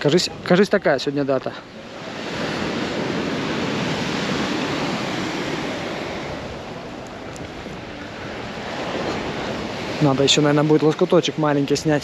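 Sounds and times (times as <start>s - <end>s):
sea surf washing ashore: 0.0s - 12.0s.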